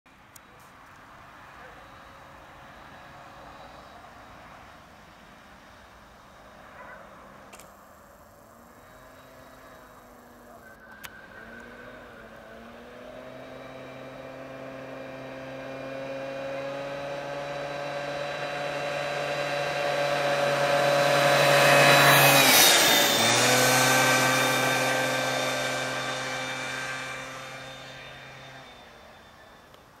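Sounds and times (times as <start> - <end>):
scooter engine passing by: 0.4 - 30.0.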